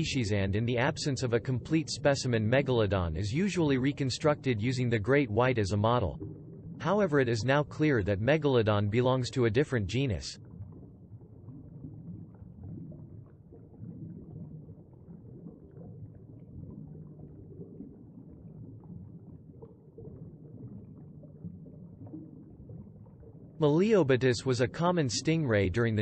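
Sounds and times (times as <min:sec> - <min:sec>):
faint underwater rumble: 0:00.0 - 0:26.0
soft watery churning: 0:00.0 - 0:26.0.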